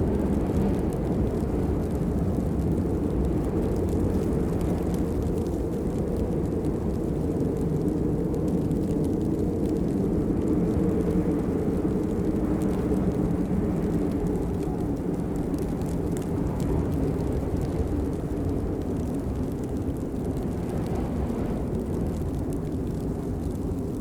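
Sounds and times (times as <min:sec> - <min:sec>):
deep low rumble: 0:00.0 - 0:24.0
raindrop ticks: 0:00.0 - 0:24.0
steady rain: 0:00.0 - 0:24.0.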